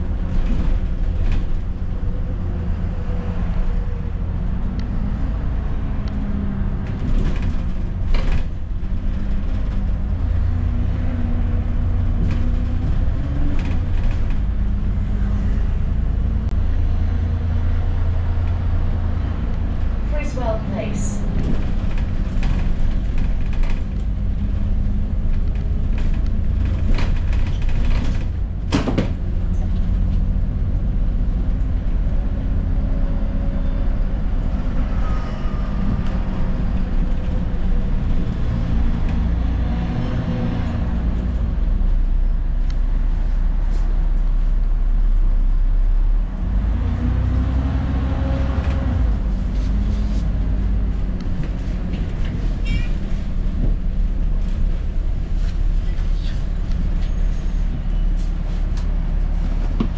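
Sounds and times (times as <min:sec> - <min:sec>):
bus diesel engine rumble: 0:00.0 - 0:59.9.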